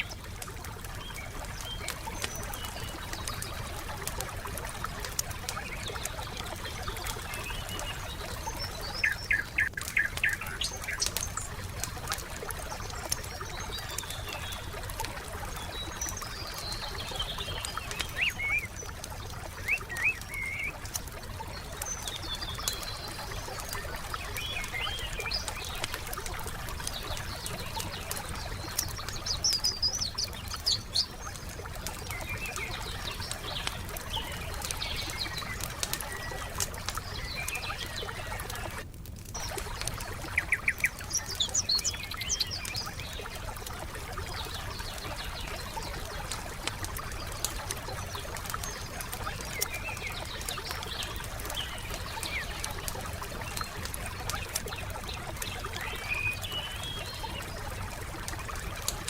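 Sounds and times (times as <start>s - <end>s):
campfire crackling and popping: 0.0s - 59.0s
small birds chirping: 0.0s - 59.0s.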